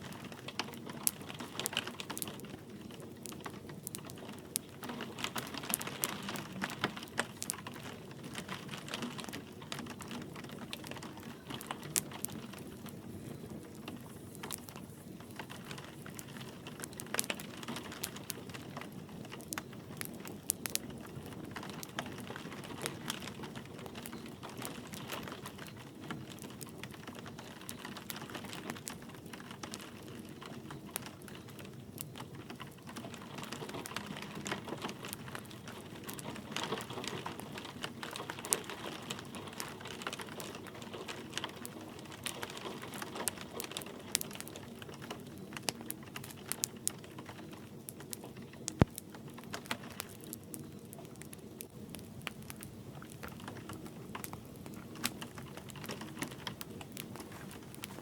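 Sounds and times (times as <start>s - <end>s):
light rain hiss: 0.0s - 58.0s
wood fire crackling: 0.0s - 58.0s.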